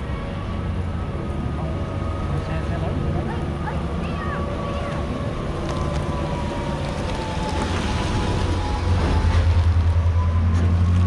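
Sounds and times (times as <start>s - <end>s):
vehicle engine pulsing hum: 0.0s - 11.0s.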